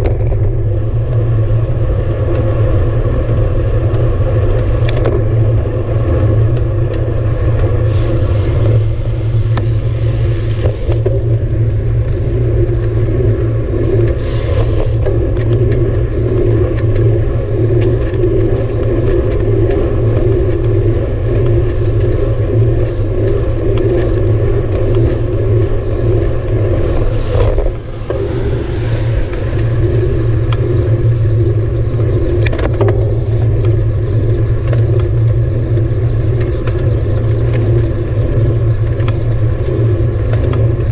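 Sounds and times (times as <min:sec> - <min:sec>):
wind and road rumble: 0:00.0 - 0:40.9.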